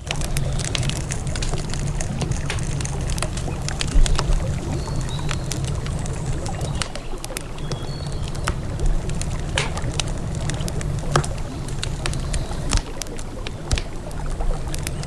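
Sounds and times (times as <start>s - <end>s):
campfire crackling and popping: 0.0s - 15.0s
river flowing: 0.0s - 15.0s.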